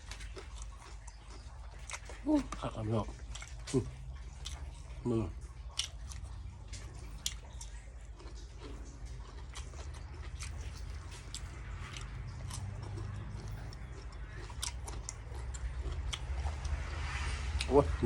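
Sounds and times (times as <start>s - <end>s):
low steady rumble: 0.0s - 18.0s
person chewing and eating: 0.0s - 18.0s.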